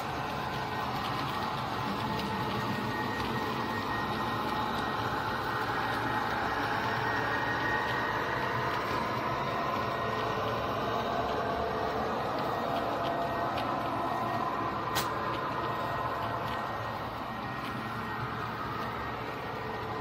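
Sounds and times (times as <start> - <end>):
model train motors whirring: 0.0 - 20.0
thin high whine: 0.0 - 20.0.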